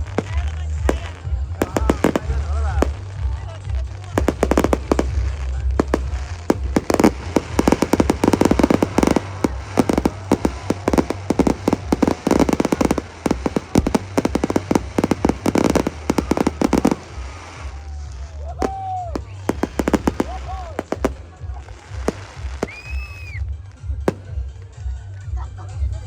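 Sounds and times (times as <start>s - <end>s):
fireworks bangs and crackles: 0.0s - 25.9s.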